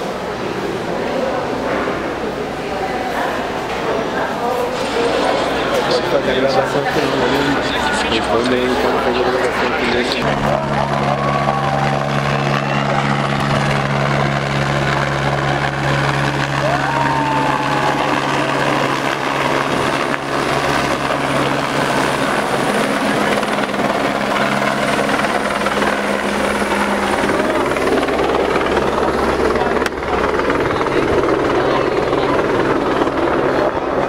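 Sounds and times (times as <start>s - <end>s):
helicopter flying past: 0.0s - 34.0s.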